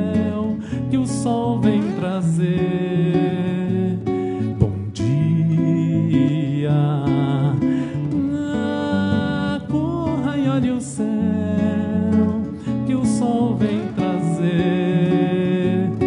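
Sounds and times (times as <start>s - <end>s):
man singing wordlessly: 0.0s - 16.0s
nylon-string acoustic guitar chords: 0.0s - 16.0s.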